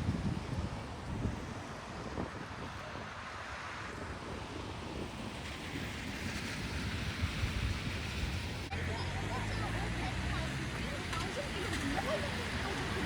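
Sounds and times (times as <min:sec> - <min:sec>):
wind and rain rushing: 0:00.0 - 0:13.0
wind buffeting microphone: 0:00.0 - 0:13.0.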